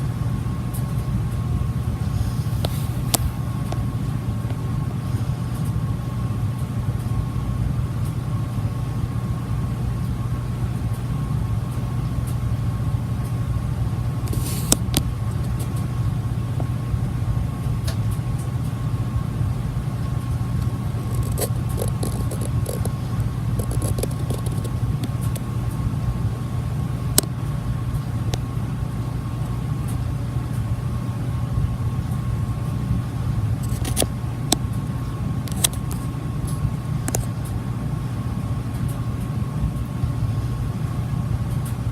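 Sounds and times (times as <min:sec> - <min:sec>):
ceiling fan running: 0:00.0 - 0:41.9.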